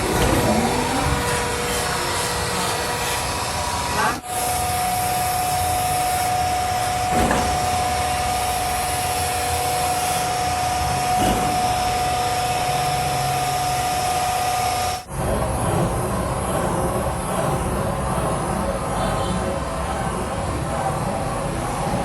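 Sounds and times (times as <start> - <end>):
machine running with high whine: 0.0 - 22.0.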